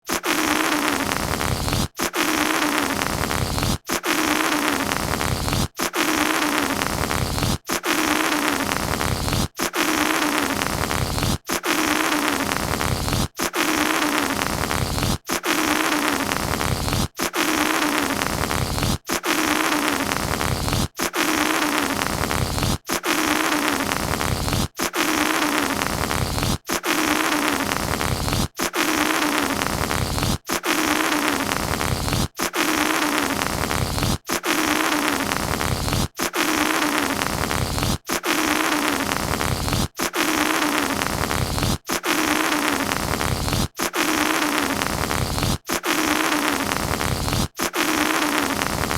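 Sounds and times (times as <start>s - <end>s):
air rasping out of balloon neck: 0.0s - 48.9s.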